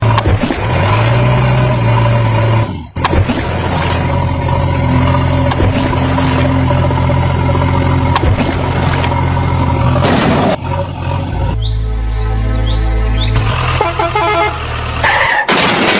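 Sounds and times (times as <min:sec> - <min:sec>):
heavy vehicle engine droning: 0:00.0 - 0:15.4.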